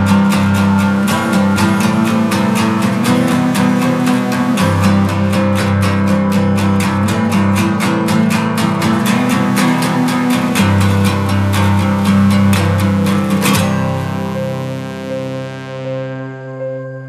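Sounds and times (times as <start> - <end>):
bass line: 0.0 - 17.0
strummed guitar: 0.0 - 17.0.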